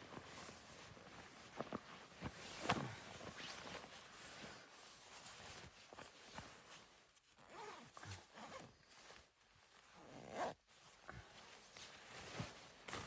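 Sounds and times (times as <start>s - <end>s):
quiet rustling and handling: 0.0s - 13.0s.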